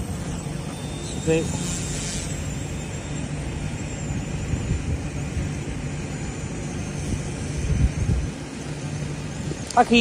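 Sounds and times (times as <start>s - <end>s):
rc helicopter rotor and motor whirring: 0.0s - 10.0s.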